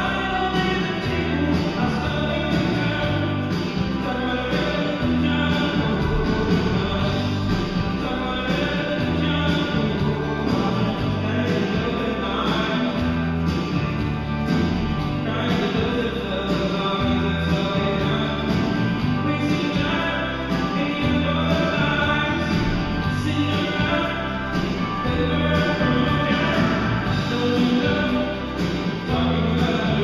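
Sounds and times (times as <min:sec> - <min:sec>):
song with singing over instruments: 0:00.0 - 0:30.0.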